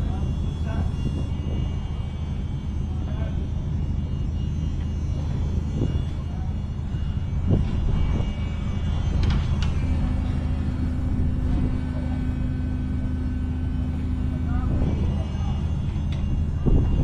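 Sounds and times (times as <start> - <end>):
large engine running: 0.0 - 17.0.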